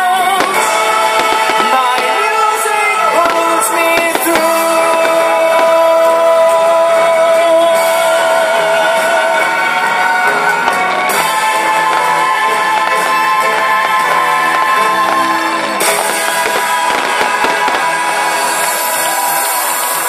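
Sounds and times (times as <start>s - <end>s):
live rock band playing: 0.0s - 19.6s
singer holding long note: 0.0s - 20.0s.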